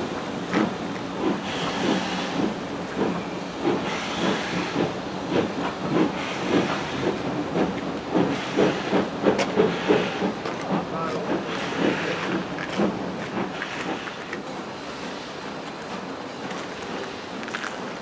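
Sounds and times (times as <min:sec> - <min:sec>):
steam hissing: 0:00.0 - 0:18.0
steam locomotive exhaust beats: 0:00.0 - 0:18.0.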